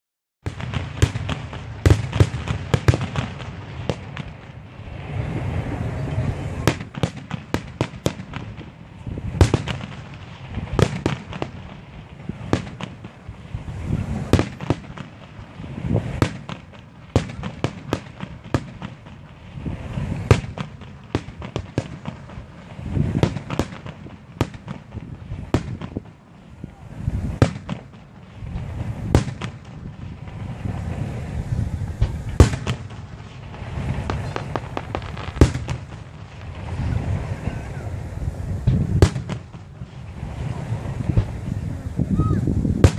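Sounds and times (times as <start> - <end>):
fireworks booming: 0.4 - 42.9
fireworks crackling: 0.4 - 42.9.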